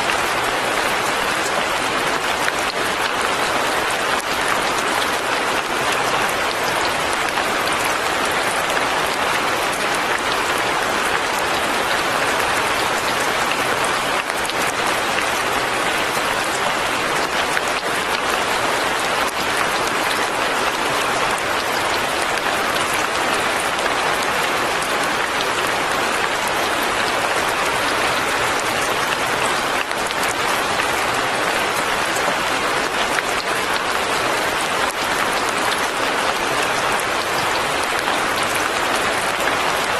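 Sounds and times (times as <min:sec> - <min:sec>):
fine rain falling: 0:00.0 - 0:39.9.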